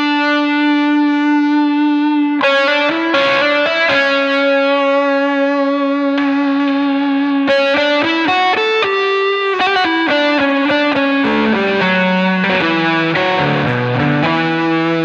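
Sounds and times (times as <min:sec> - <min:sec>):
distorted electric guitar lead: 0:00.0 - 0:15.0.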